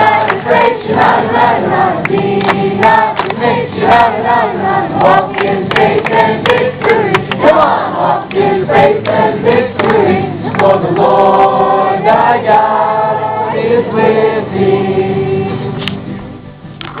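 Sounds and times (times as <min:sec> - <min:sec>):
group singing in unison: 0:00.0 - 0:15.8.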